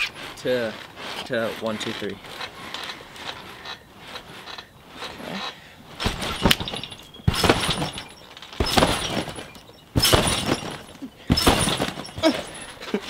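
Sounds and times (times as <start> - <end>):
trampoline springs creaking: 0.0 - 13.0.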